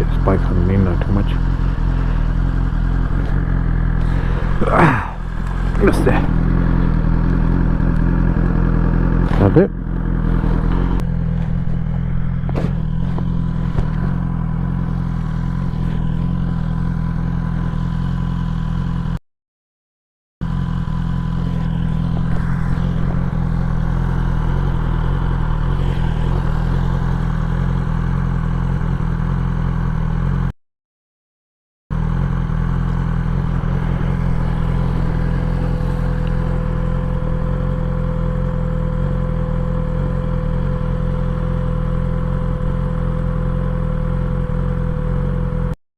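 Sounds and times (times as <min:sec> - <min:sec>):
motorcycle engine running steadily: 0:00.0 - 0:19.2, 0:20.4 - 0:30.5, 0:31.9 - 0:45.8.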